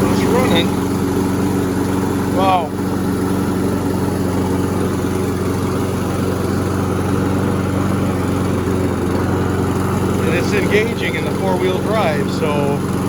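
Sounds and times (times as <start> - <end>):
lawnmower engine running: 0.0 - 13.0.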